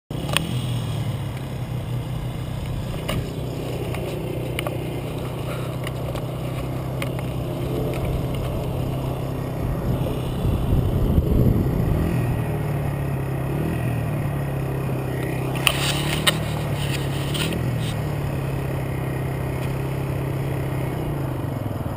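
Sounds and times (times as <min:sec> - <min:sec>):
dirt bike engine idling: 0:00.1 - 0:21.9.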